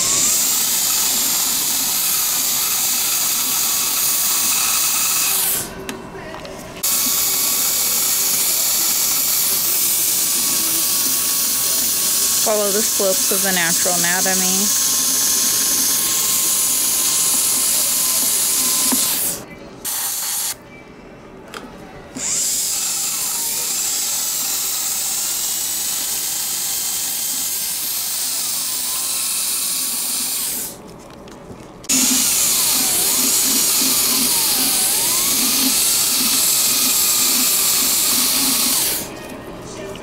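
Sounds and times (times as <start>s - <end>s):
dental handpiece whine: 0.0s - 5.7s, 6.8s - 20.6s, 22.2s - 30.8s, 31.9s - 39.1s.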